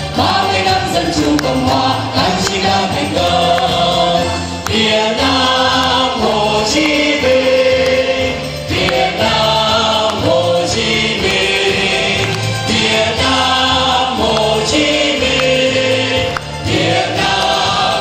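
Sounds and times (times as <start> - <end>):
group of voices singing: 0.0 - 18.0
musical accompaniment: 0.0 - 18.0
audience clapping along: 0.1 - 18.0.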